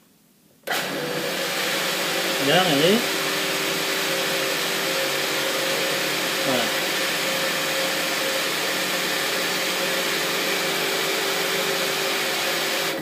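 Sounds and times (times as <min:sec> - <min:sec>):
electric pump motor humming: 0:00.7 - 0:13.0.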